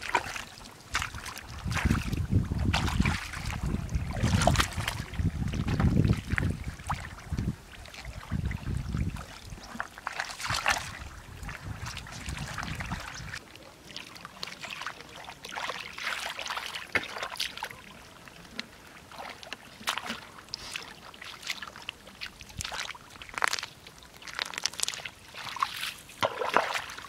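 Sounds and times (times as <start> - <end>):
hands splashing in muddy water: 0.0 - 8.4, 9.0 - 17.7, 19.1 - 27.0.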